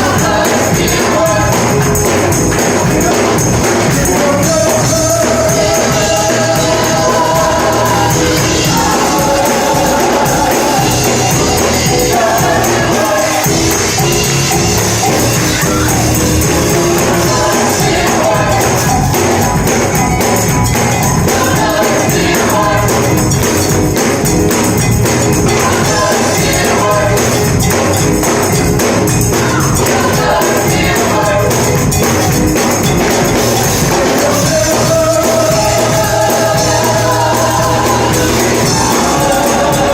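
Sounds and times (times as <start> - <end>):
choir singing: 0.0 - 23.8, 25.3 - 32.1, 32.9 - 39.9
tambourine shaking: 0.0 - 39.9.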